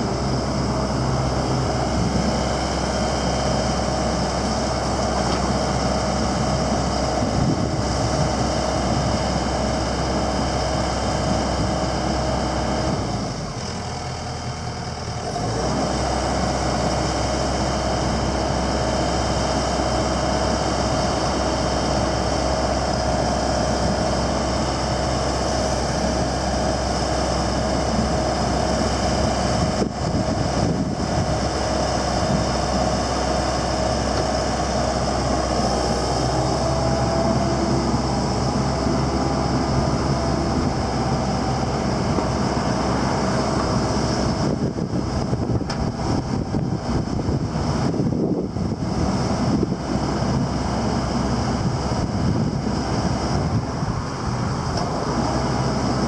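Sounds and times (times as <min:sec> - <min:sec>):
excavator diesel engine running: 0:00.0 - 0:56.0
steady whine: 0:00.0 - 0:56.0.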